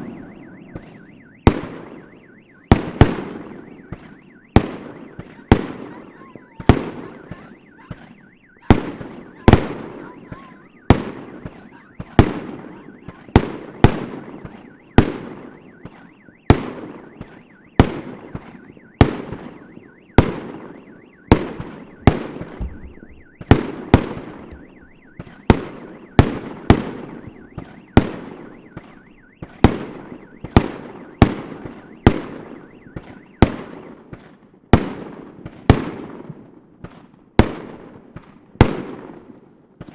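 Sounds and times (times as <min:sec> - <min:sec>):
fireworks banging: 0:00.0 - 0:34.2.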